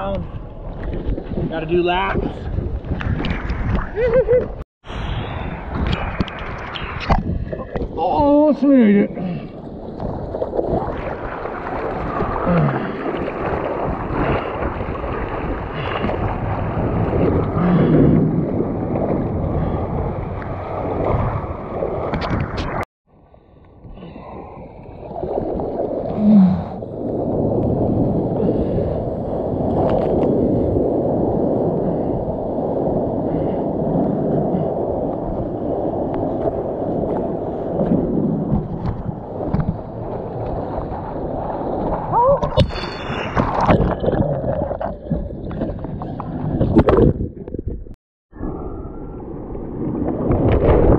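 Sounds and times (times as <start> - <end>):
wind buffeting microphone: 0.0 - 22.8, 24.7 - 50.9.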